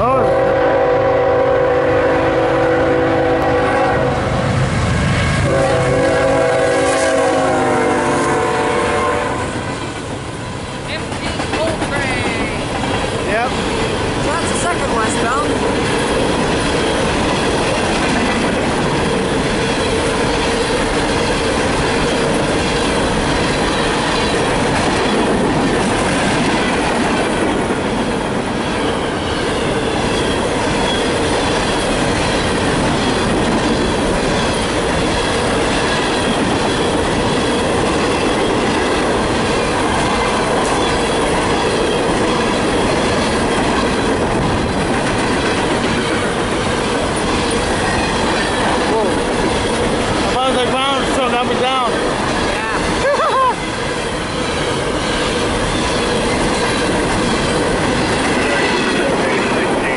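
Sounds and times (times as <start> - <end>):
steel train wheels clattering: 2.9 - 59.9.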